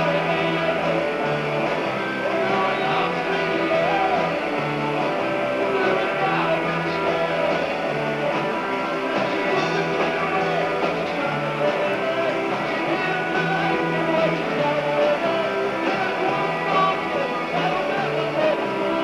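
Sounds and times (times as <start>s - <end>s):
live rock band playing: 0.0s - 19.0s
repeating bass line: 0.0s - 19.0s.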